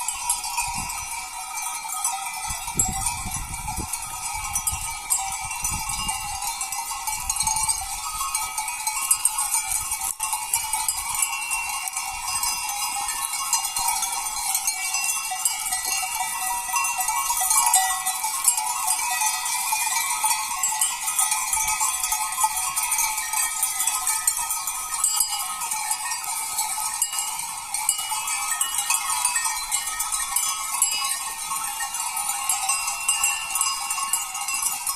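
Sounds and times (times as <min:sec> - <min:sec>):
goat bells clanking: 0:00.0 - 0:34.9.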